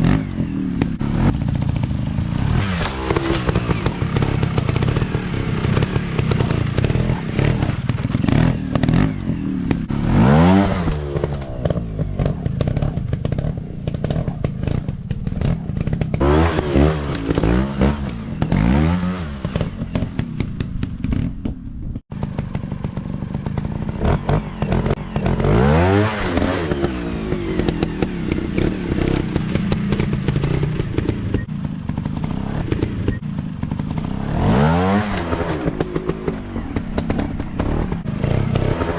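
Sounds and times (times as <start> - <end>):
trail bike engines revving: 0.0 - 38.9.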